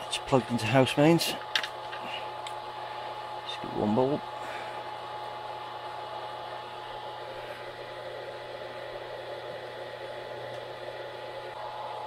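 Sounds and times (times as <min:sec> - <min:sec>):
cooling fan running: 0:00.0 - 0:12.0.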